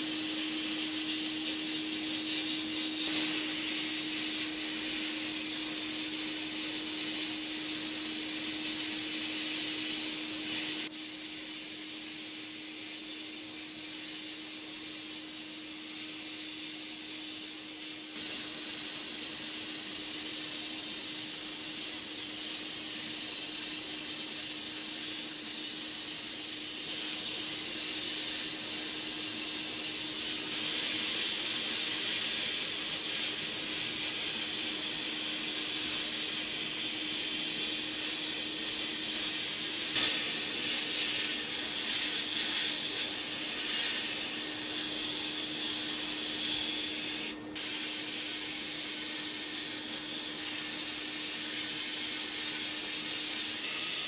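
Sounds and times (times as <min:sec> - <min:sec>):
sandblasting hiss: 0:00.0 - 0:54.0.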